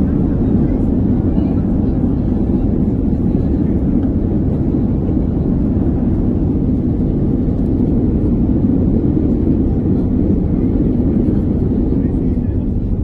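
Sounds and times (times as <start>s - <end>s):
airliner cabin rumble on landing: 0.0s - 13.0s.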